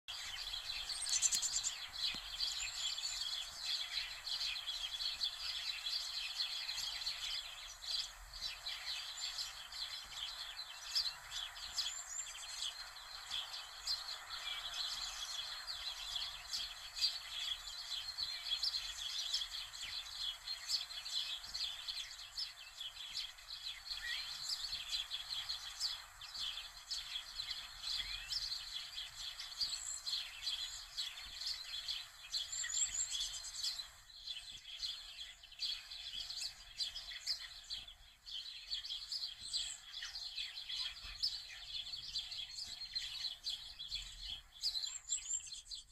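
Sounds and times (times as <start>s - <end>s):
birds chirping: 0.0s - 45.9s
steady hiss: 0.2s - 38.3s.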